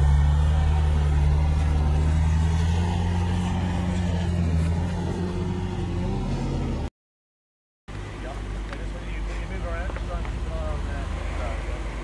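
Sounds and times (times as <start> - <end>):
car engine running at low revs: 0.0 - 6.9, 7.9 - 12.0.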